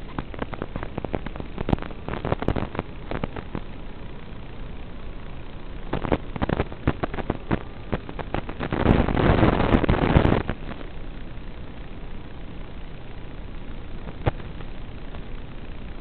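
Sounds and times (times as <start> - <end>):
burst of static: 0.0 - 12.0, 12.8 - 15.8
radio static hiss with crackles: 0.0 - 16.0.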